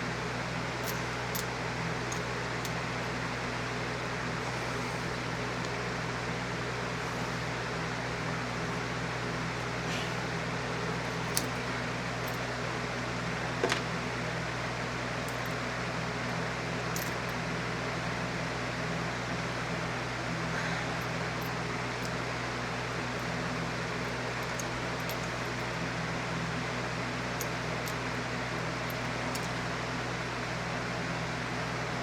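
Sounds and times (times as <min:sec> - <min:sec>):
mechanical hum and hiss: 0:00.0 - 0:32.0.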